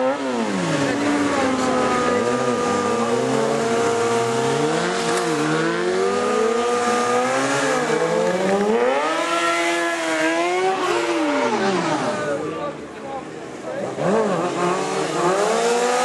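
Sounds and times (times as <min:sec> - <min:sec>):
motorcycle engine revving high: 0:00.0 - 0:12.6, 0:13.9 - 0:16.0.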